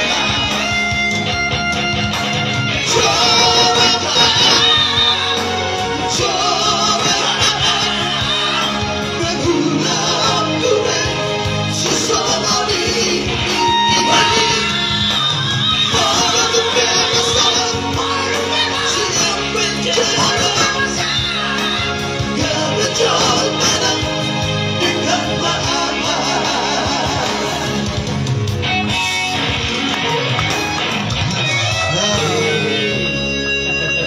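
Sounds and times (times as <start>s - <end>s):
male vocal trio singing: 0.0s - 1.5s, 2.6s - 28.2s, 31.9s - 34.0s
amplified backing music: 0.0s - 34.0s.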